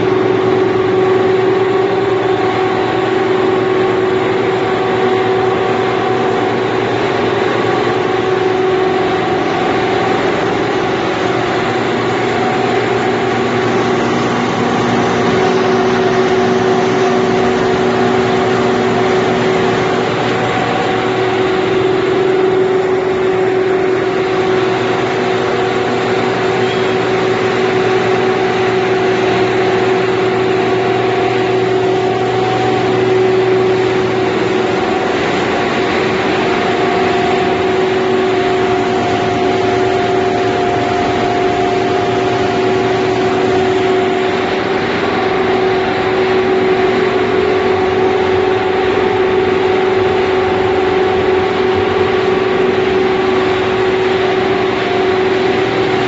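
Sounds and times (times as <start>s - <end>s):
electric motors machinery noise: 0.0s - 56.0s
held hum tones: 0.0s - 56.0s.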